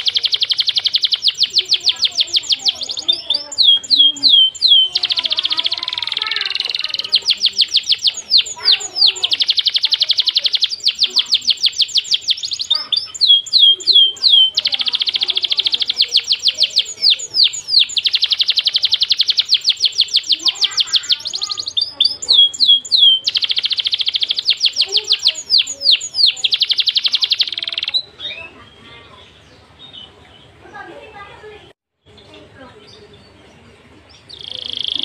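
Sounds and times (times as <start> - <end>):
songbird trills: 0.0 - 35.0.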